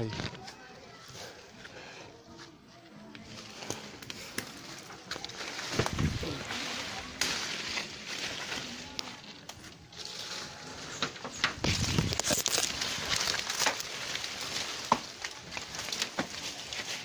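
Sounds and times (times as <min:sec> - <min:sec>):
dry leaves crunching underfoot: 0:03.2 - 0:17.0
twigs cracking: 0:03.2 - 0:17.0.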